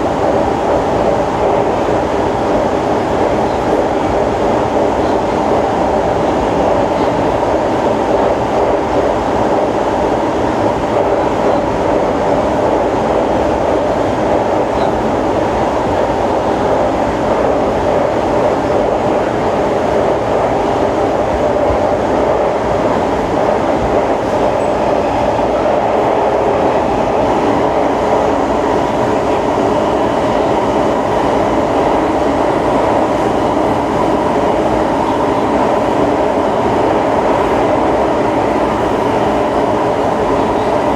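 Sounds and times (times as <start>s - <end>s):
metro train rumbling on rails: 0.0s - 40.9s.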